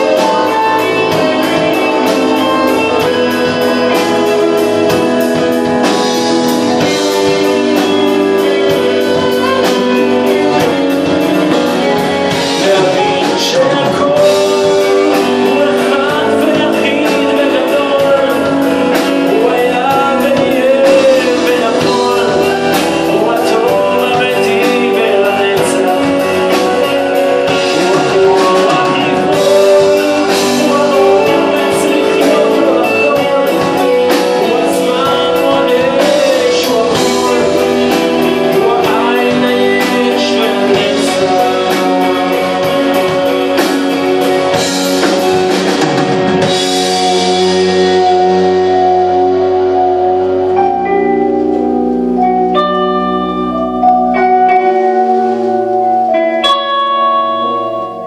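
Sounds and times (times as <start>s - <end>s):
live rock band playing: 0.0s - 58.0s
wavering lead melody: 0.0s - 58.0s.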